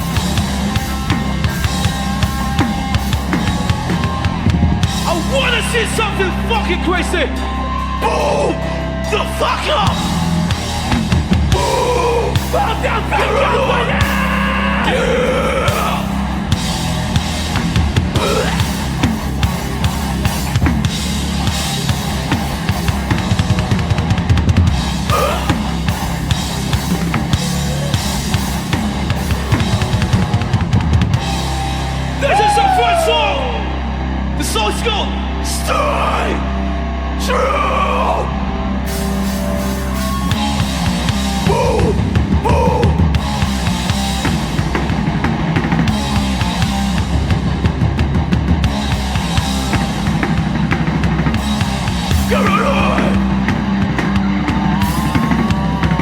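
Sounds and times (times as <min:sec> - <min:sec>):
drum kit played hard: 0:00.0 - 0:08.5, 0:09.7 - 0:32.8, 0:38.9 - 0:56.0
low bass notes: 0:00.0 - 0:56.0.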